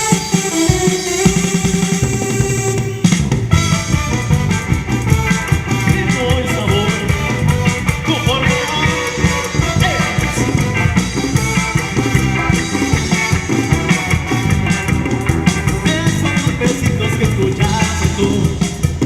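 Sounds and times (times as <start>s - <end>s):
steady drum beat: 0.0s - 19.0s
upbeat band music: 0.0s - 19.0s.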